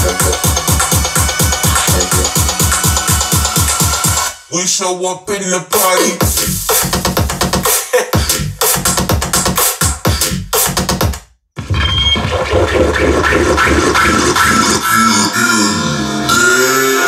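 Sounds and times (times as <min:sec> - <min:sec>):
electronic music with heavy bass: 0:00.0 - 0:17.0.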